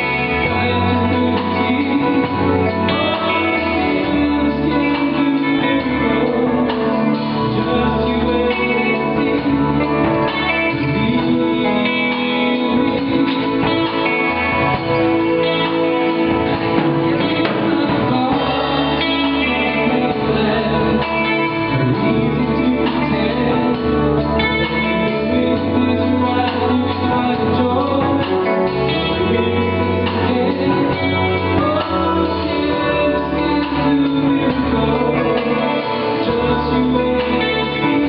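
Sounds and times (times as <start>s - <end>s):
bass line: 0.0s - 38.0s
guitar: 0.0s - 38.0s.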